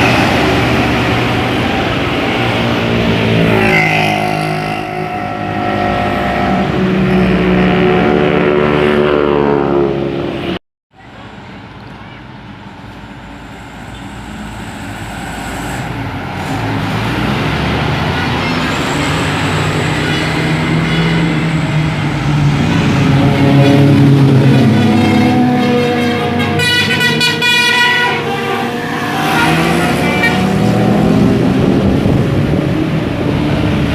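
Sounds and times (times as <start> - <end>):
bus diesel engine passing: 0.0 - 33.9
bus engine approaching: 0.0 - 33.9.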